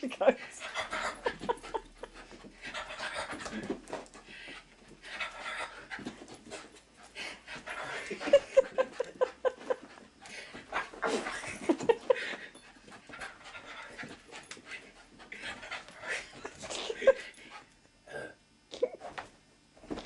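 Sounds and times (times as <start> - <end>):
dog panting: 0.3 - 17.8.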